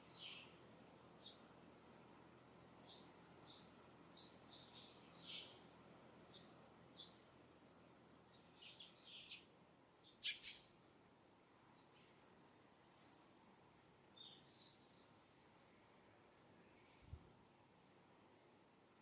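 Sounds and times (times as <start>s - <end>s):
distant wild birds chirping: 0.0s - 13.4s, 14.1s - 17.2s, 18.2s - 18.6s.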